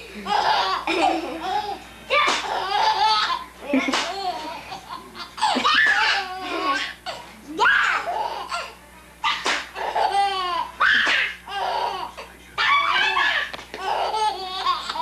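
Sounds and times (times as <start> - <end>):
baby laughing: 0.0 - 15.0.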